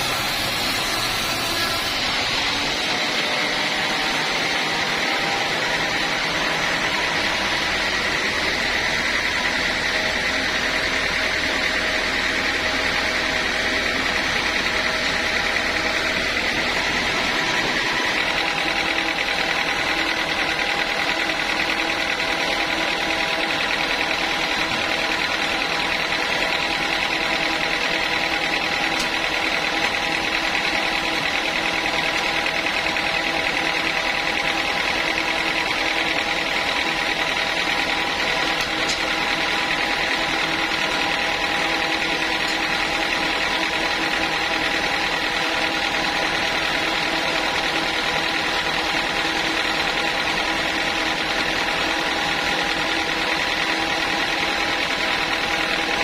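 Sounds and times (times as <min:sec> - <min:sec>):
band sawmill drone with high whine: 0:00.0 - 0:56.0.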